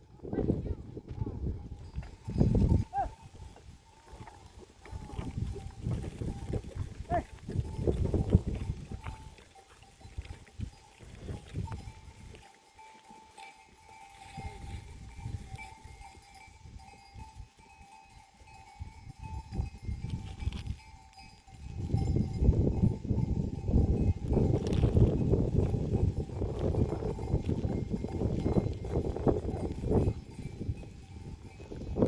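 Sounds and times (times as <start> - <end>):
livestock bell ringing: 1.0 - 32.0.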